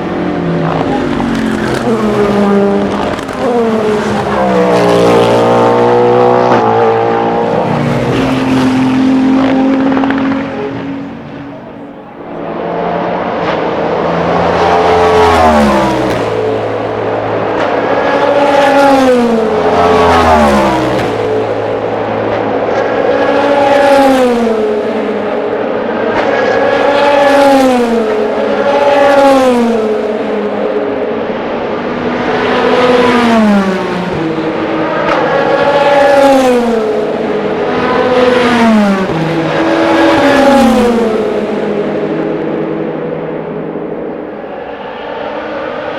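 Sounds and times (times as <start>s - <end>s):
race cars passing at speed: 0.0s - 45.9s.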